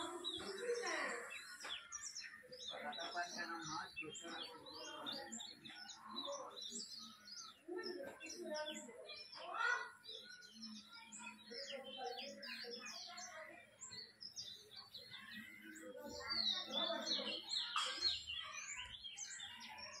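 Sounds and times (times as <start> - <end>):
faint voices: 0.0 - 20.0
small birds chirping: 0.0 - 20.0.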